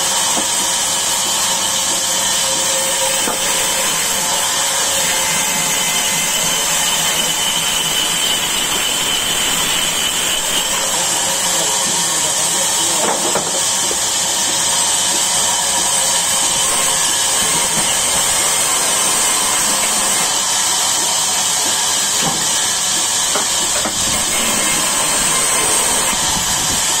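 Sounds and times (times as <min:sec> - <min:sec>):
machine drone: 0:00.0 - 0:13.0, 0:13.7 - 0:27.0
band saw cutting through log: 0:00.0 - 0:27.0.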